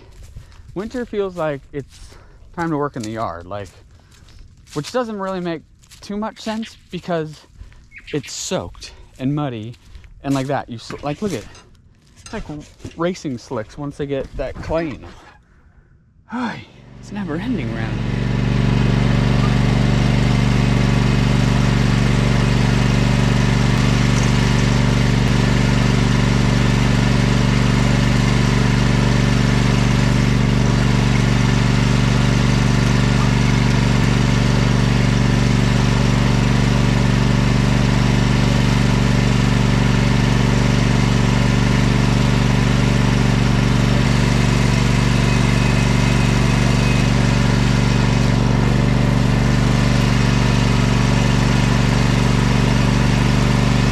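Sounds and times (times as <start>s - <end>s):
riding mower engine running: 0.0s - 15.0s, 16.3s - 53.9s.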